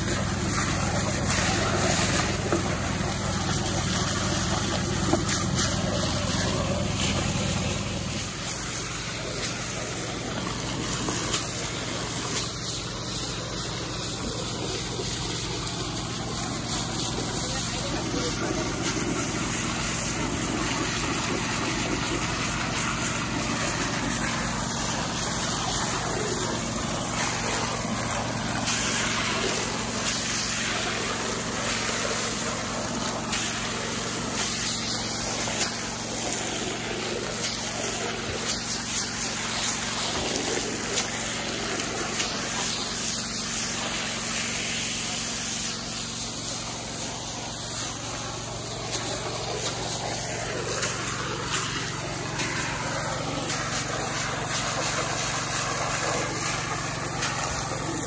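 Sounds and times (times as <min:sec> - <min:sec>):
small engine running: 0:00.0 - 0:58.0
water splashing over gravel: 0:00.0 - 0:58.0.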